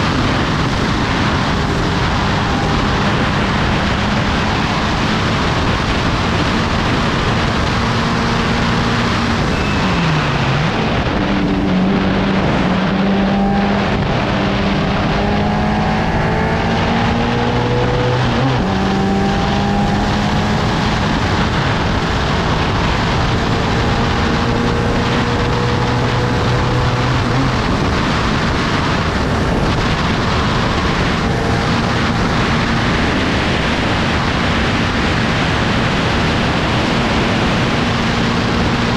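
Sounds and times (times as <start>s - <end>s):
loud wind rush: 0.0s - 38.9s
race car engine: 0.0s - 38.9s.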